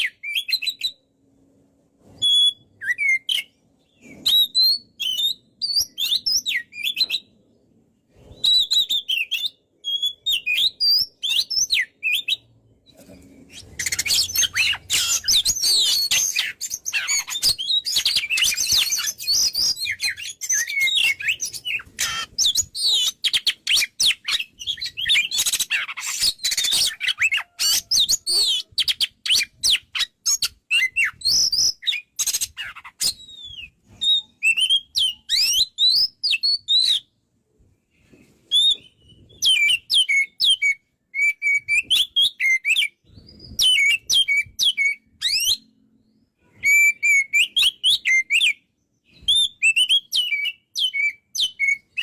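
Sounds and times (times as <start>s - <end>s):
bird singing whistled phrases: 2.2s - 7.3s, 8.3s - 12.5s, 13.5s - 37.1s, 38.5s - 45.7s, 46.6s - 52.0s.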